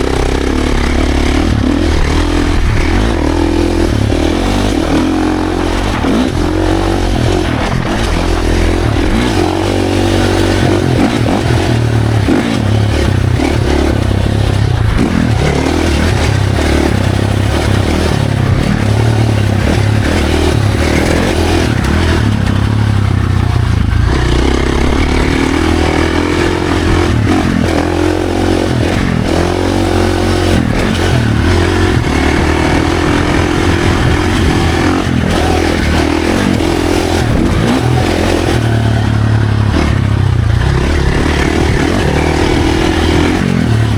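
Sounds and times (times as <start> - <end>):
dirt bike engine revving: 0.0 - 43.9
wind noise: 0.0 - 43.9.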